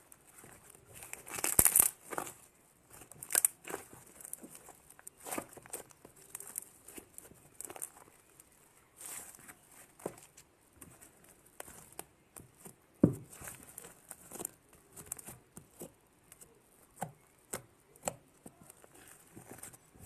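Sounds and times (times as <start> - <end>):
slime squelching and clicking: 0.3 - 19.8.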